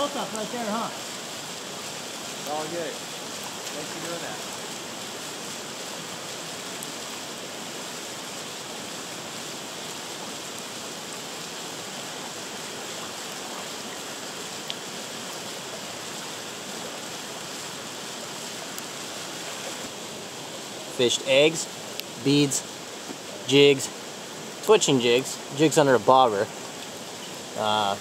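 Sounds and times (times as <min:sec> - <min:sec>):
flowing river water: 0:00.0 - 0:28.0
small waterfall: 0:00.0 - 0:28.0.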